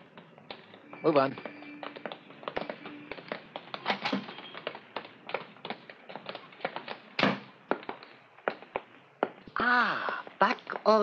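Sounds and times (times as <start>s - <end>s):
footsteps of men walking: 0.0s - 11.0s.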